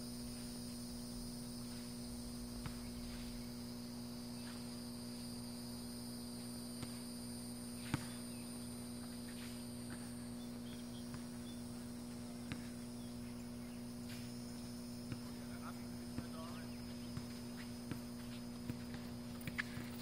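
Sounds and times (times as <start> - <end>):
constant high-pitched tones: 0.0 - 20.0
low hum: 0.0 - 20.0.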